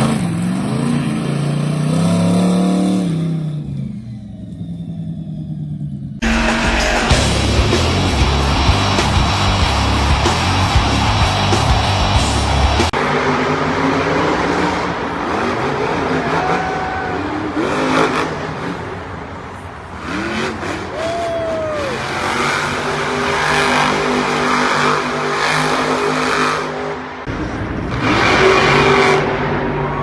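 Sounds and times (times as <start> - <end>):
noisy arena background: 0.0 - 30.0
truck engines revving: 0.0 - 30.0.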